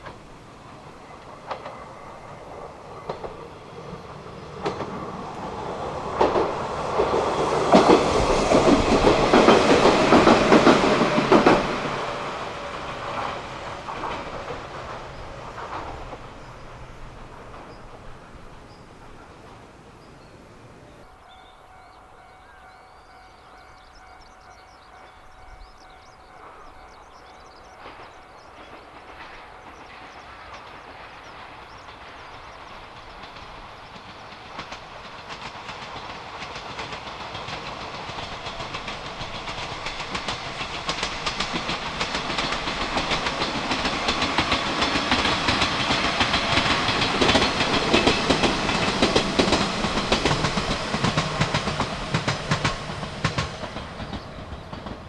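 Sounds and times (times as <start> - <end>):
wheels clattering over rail joints: 0.0 - 20.1, 27.5 - 55.0
electric train approaching: 0.0 - 55.0.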